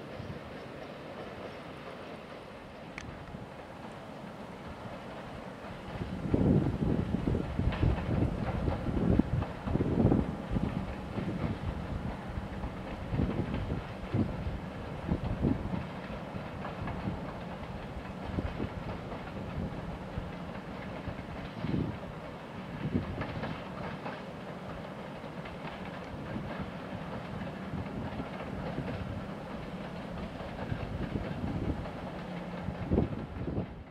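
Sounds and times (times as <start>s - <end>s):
freight train rumble: 0.0s - 33.9s
wheels clicking over rail joints: 0.0s - 33.9s.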